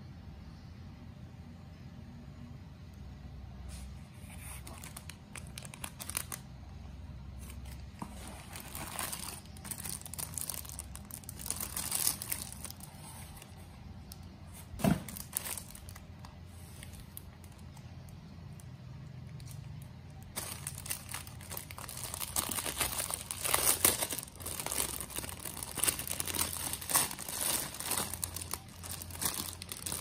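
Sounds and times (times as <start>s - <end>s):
plastic bag crinkling: 4.2s - 6.7s, 7.4s - 30.0s.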